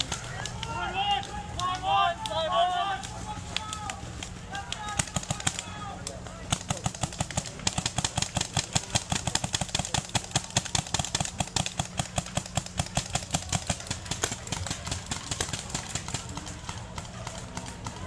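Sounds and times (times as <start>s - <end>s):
paintball guns firing rapidly: 0.0s - 18.0s.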